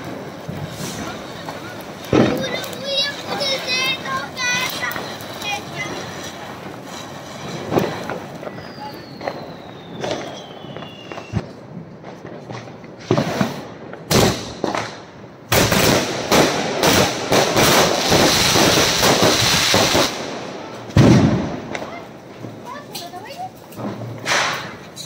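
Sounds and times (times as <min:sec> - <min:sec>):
firecracker bangs: 0:00.0 - 0:25.0
rapid firecracker crackling: 0:00.0 - 0:25.0.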